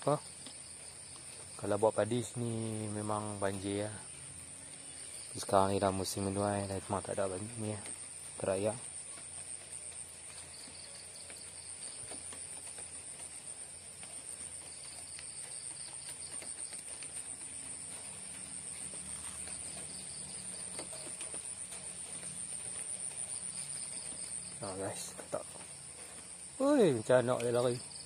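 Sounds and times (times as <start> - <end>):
high-pitched insect trill: 0.0 - 28.0
lower pulsing insect call: 0.0 - 28.0.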